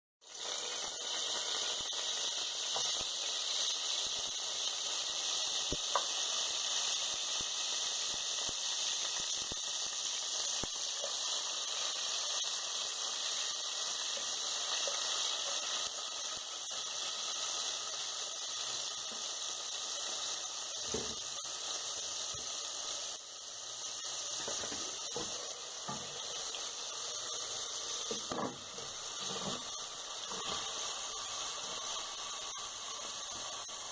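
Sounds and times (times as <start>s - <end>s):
oil sizzling in pot: 0.2s - 33.9s.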